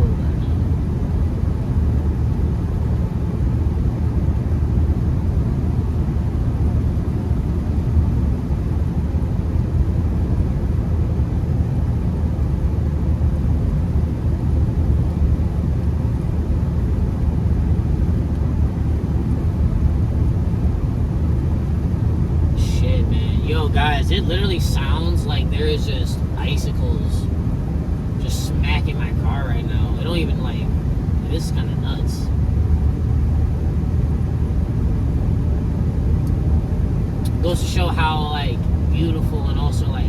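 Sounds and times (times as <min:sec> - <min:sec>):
car engine drone: 0:00.0 - 0:40.0.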